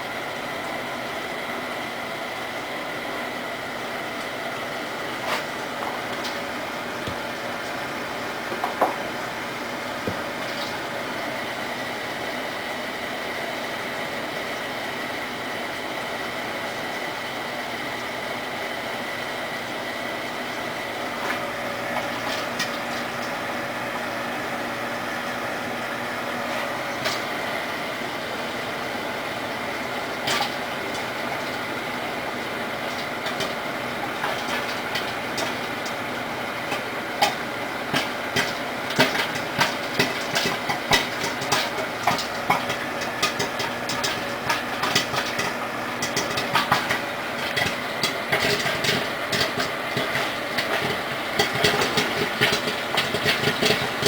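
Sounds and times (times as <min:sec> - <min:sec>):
microwave oven hum: 0:00.0 - 0:54.0
popcorn popping: 0:04.0 - 0:14.1, 0:19.1 - 0:54.0.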